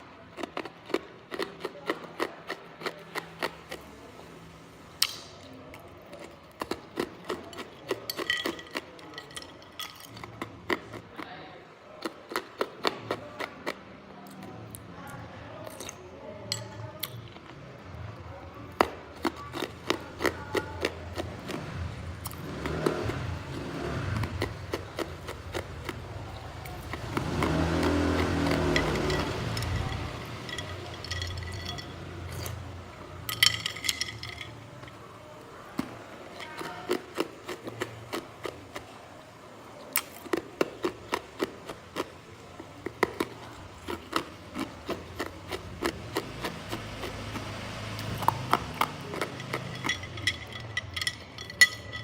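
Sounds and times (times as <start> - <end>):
ice being chewed: 0.0 - 4.2, 5.0 - 14.8, 18.7 - 39.0, 39.7 - 52.0.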